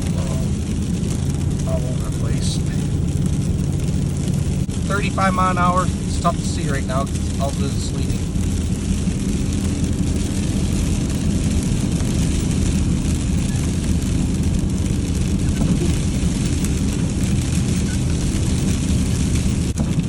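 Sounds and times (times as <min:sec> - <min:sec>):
engine and tyre drone: 0:00.0 - 0:20.0.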